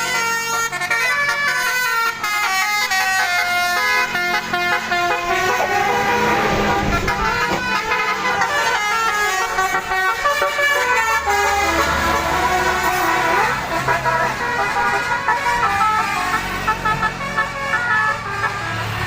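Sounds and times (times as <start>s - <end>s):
multi-tone bus horn melody: 0.0s - 19.0s.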